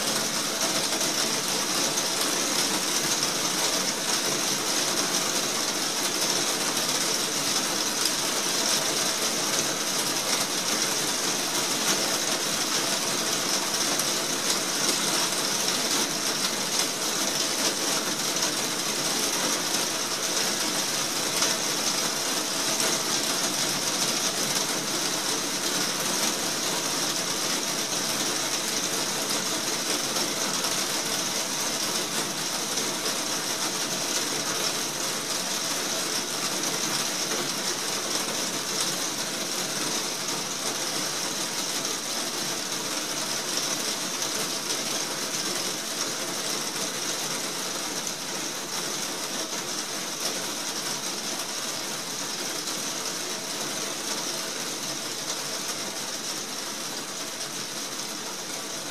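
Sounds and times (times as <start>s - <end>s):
heavy rain on roof: 0.0s - 58.9s.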